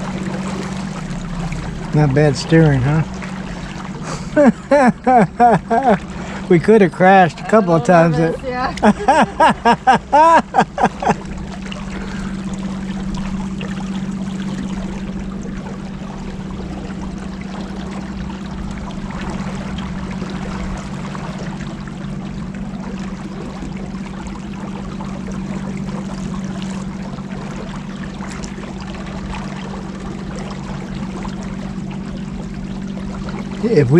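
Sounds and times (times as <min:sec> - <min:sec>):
motorboat engine humming: 0:00.0 - 0:33.9
water rushing along hull: 0:00.0 - 0:33.9.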